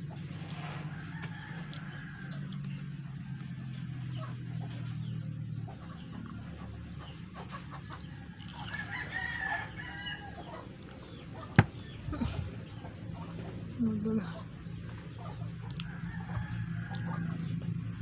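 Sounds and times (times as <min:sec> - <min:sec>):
chickens calling: 0:00.0 - 0:18.0
low steady hum: 0:00.0 - 0:18.0.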